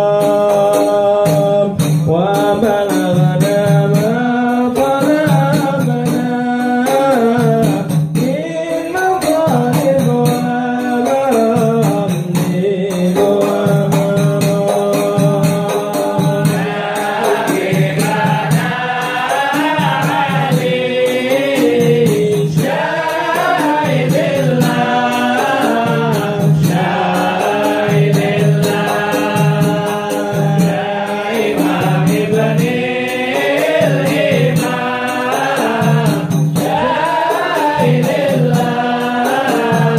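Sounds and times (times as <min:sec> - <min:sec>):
frame drums beating: 0:00.0 - 0:39.9
men singing together: 0:00.0 - 0:39.9.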